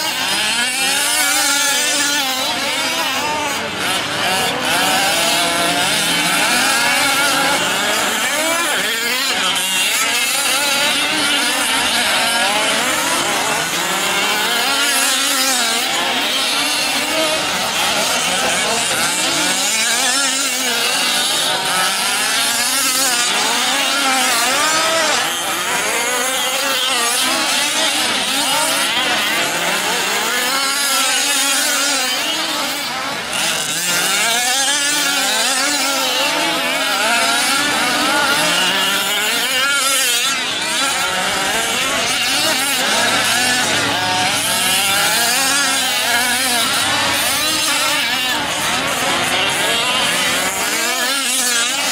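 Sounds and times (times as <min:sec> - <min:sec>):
rc truck engines revving: 0:00.0 - 0:51.9.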